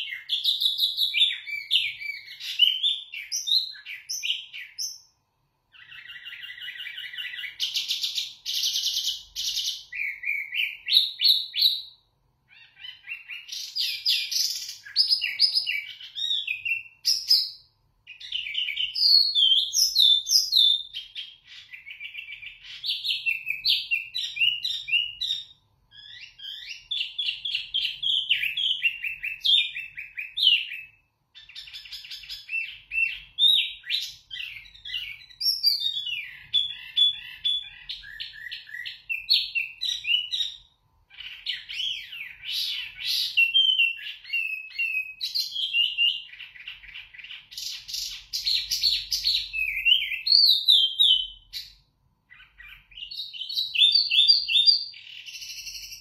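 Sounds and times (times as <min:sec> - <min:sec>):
songbird whistling song: 0:00.0 - 0:56.0.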